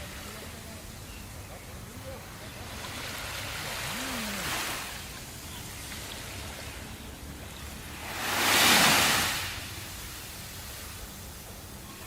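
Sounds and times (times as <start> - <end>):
hiss of surf: 0.0 - 12.0
wave breaking and washing in: 1.9 - 11.7.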